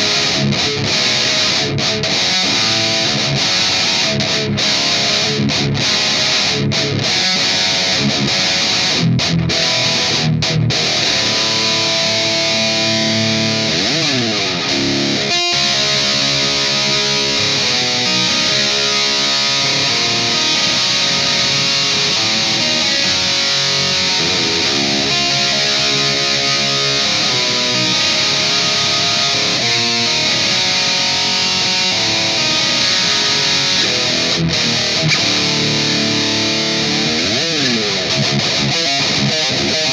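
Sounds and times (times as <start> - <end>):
distorted electric guitar riff: 0.0 - 39.9.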